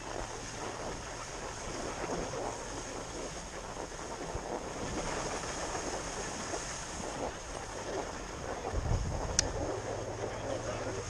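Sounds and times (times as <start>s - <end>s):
skis sliding over snow: 0.0s - 11.0s
wind on microphone: 0.0s - 11.0s.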